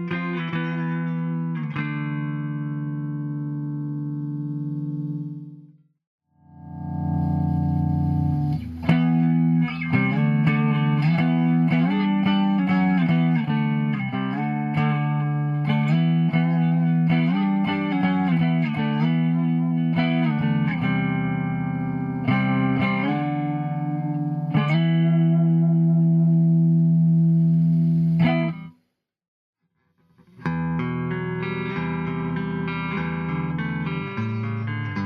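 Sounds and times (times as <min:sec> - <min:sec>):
electric guitar riffing: 0:00.0 - 0:05.6, 0:06.5 - 0:28.8, 0:30.4 - 0:35.0.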